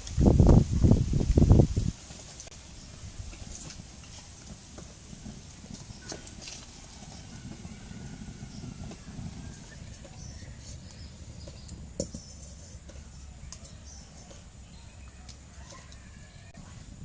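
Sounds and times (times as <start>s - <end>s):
fire crackles: 0.0s - 17.0s
fire rumbling in a stove: 0.0s - 17.0s.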